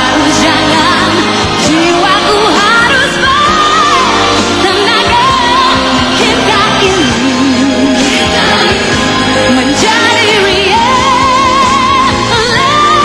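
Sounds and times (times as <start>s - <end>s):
full band accompaniment: 0.0s - 13.0s
woman singing pop song: 0.0s - 13.0s.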